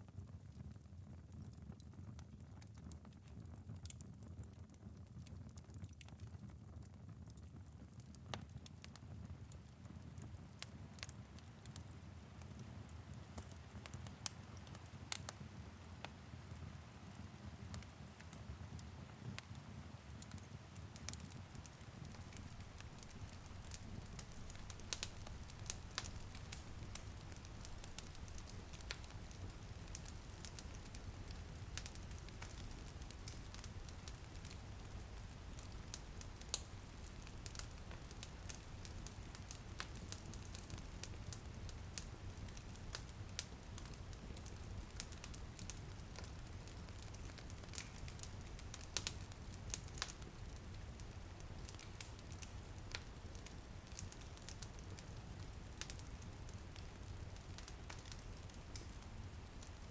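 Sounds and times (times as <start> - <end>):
light rain on a window: 0.0 - 59.9
wood fire crackling: 0.4 - 59.9.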